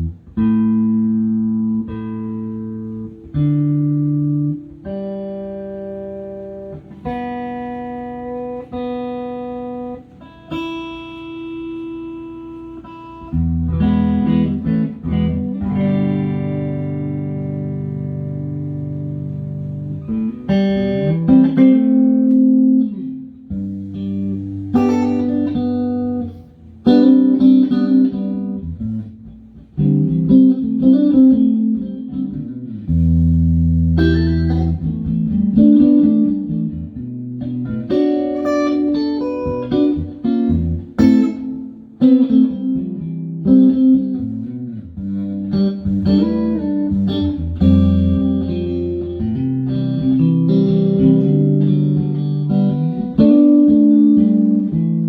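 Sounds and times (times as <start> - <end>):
electric guitar chords and notes: 0.0 - 55.0.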